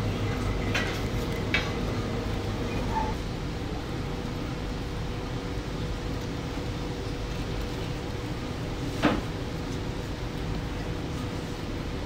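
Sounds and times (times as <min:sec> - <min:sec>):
kitchen machinery hum: 0:00.0 - 0:12.0.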